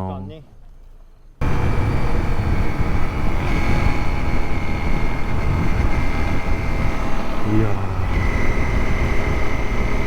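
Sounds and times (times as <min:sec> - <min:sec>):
motorcycle engine running: 0:01.4 - 0:10.0
wind rush on microphone: 0:01.4 - 0:10.0.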